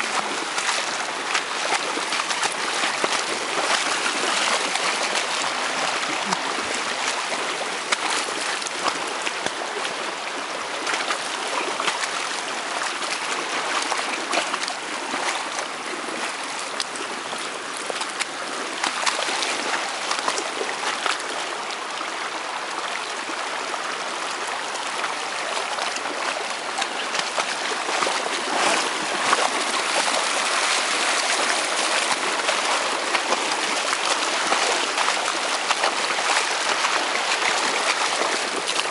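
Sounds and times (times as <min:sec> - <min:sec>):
small ticks and splashes: 0:00.0 - 0:21.2, 0:25.5 - 0:38.9
floodwater rushing: 0:00.0 - 0:38.9.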